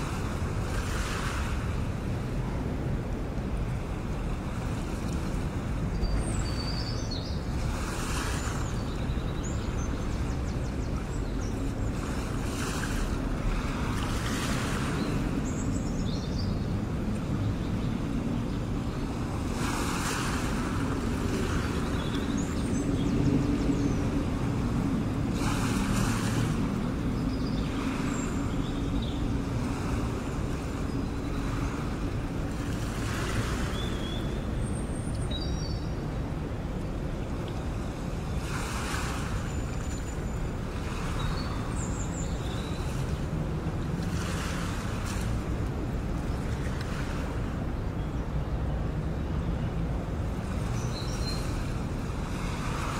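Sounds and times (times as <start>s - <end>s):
waves washing in: 0.0s - 52.9s.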